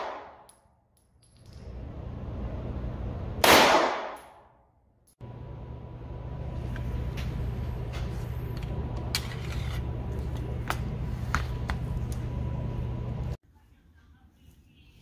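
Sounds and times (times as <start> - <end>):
steady low hum: 1.4 - 4.1, 5.0 - 15.0.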